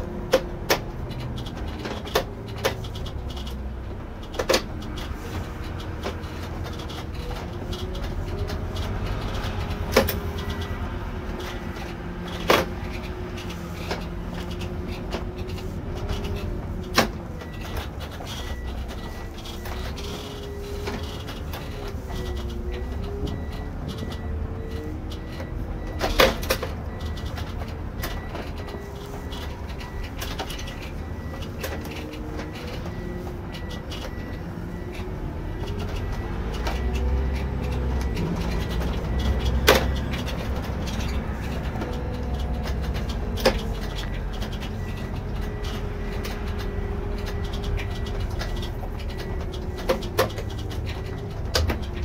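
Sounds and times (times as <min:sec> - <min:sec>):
coach engine and road rumble: 0:00.0 - 0:52.0.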